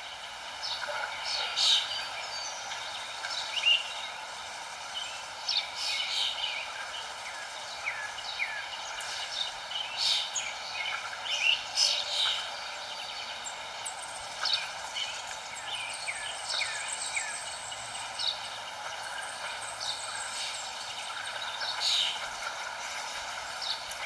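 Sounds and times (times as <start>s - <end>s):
background hiss: 0.0s - 24.0s
songbirds chirping: 0.0s - 24.0s.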